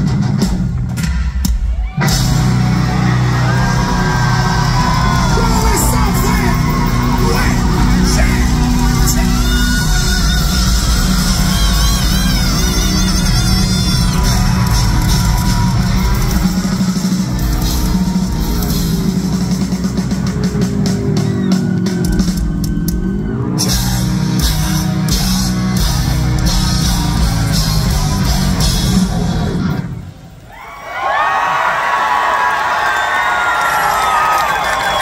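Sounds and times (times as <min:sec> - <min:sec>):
heavy metal band playing live: 0:00.0 - 0:30.4.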